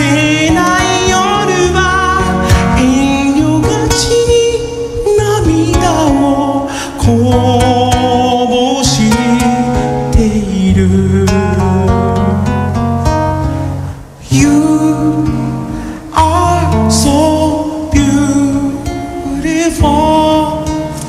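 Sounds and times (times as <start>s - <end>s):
man singing: 0.0s - 12.8s, 14.2s - 21.0s
strummed acoustic guitar: 0.0s - 21.0s.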